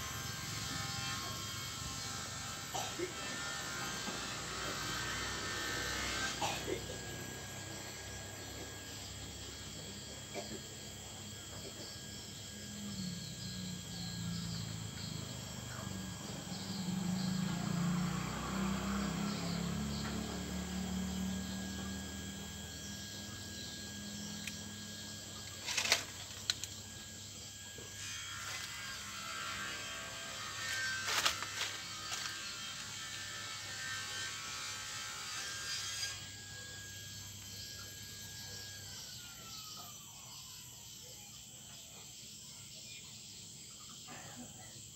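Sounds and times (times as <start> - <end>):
bees buzzing: 0.0 - 39.7.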